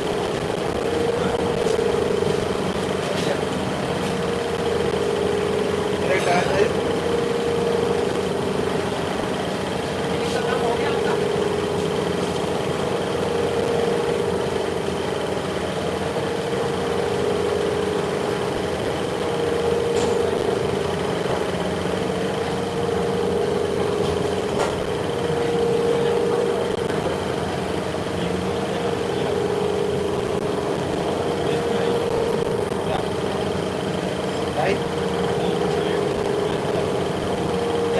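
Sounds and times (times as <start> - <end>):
workshop machinery humming: 0.0 - 37.9.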